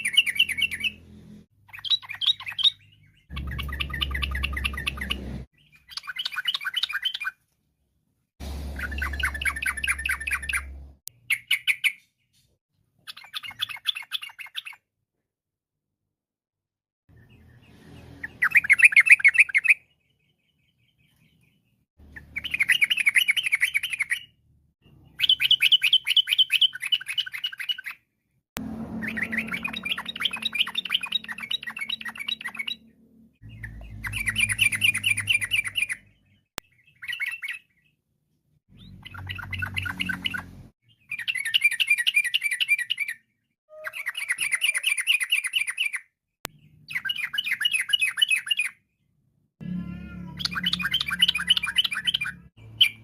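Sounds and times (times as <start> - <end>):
bird chattering song: 0.0 - 1.0, 1.6 - 7.4, 8.8 - 12.4, 13.0 - 14.8, 17.1 - 28.1, 28.9 - 38.0, 38.7 - 48.8, 50.3 - 53.0.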